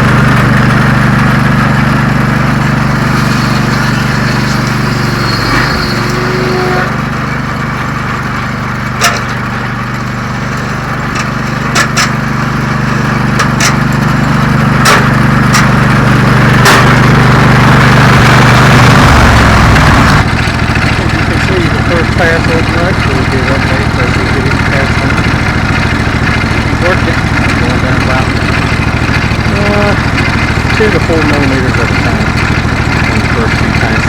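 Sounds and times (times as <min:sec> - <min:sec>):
disc cutting wood: 0:00.0 - 0:34.0
sawmill engine running: 0:00.0 - 0:34.0.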